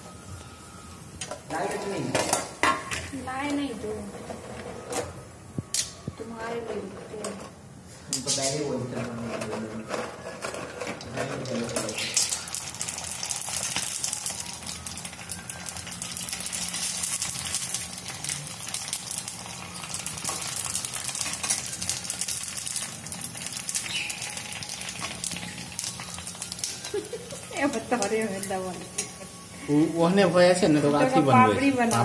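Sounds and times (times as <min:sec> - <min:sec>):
food sizzling in hot oil: 0:00.0 - 0:09.0, 0:10.5 - 0:32.0.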